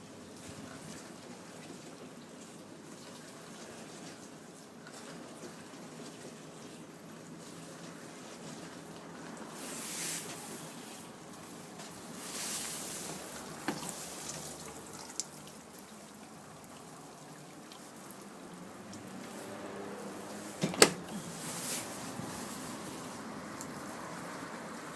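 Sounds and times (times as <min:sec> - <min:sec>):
dishwasher water swishing: 0:00.3 - 0:24.9.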